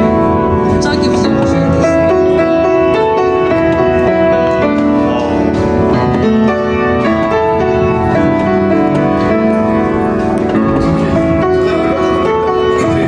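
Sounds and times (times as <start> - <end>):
keyboard chords music: 0.0 - 13.0.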